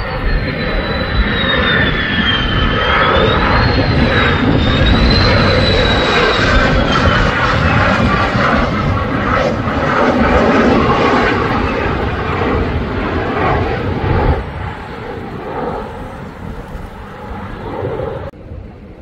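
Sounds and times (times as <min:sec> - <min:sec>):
jet engine passing overhead: 0:00.0 - 0:19.0.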